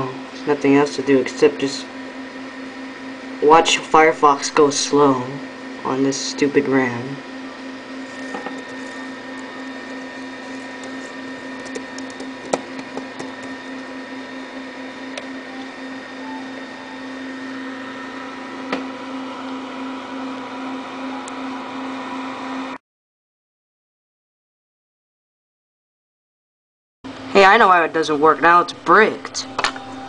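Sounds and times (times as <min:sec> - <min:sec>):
computer humming: 0:00.0 - 0:22.8, 0:27.1 - 0:30.0.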